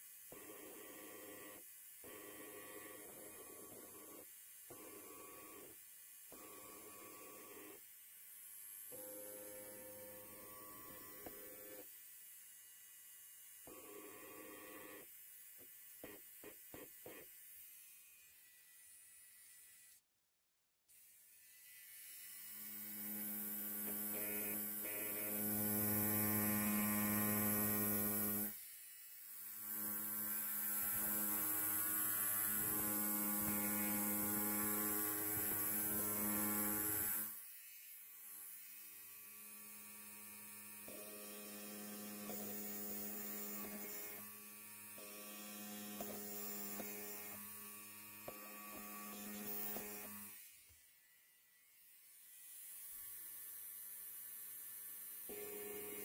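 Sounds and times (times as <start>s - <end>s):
electric hair clipper buzzing: 0.0s - 20.0s, 20.9s - 56.0s.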